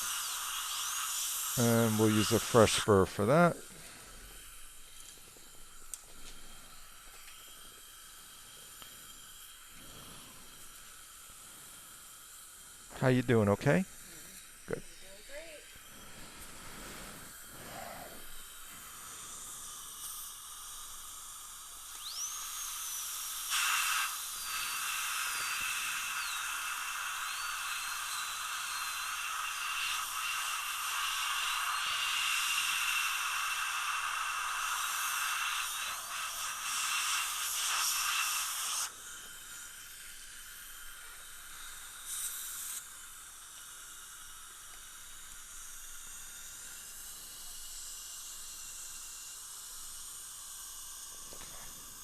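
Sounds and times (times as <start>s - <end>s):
water spray hissing: 0.0s - 5.0s, 6.3s - 52.0s
dental drill whining: 0.0s - 12.8s, 13.4s - 52.0s.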